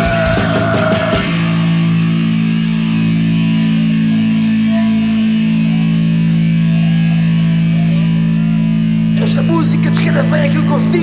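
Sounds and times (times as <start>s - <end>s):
electric guitar chord drone: 0.0s - 11.0s.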